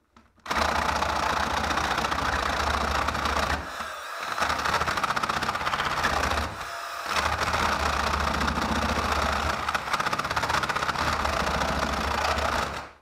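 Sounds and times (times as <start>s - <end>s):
cordless drill boring through wood: 0.5s - 13.0s.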